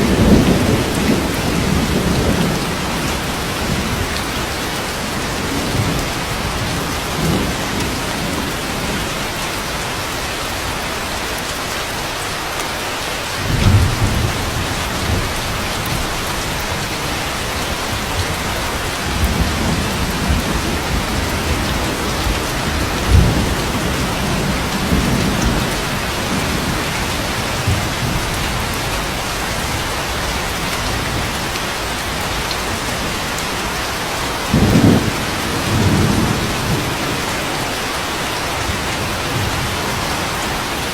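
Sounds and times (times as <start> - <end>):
thunder rumbling: 0.0 - 11.1, 13.4 - 40.9
steady rain: 0.0 - 40.9.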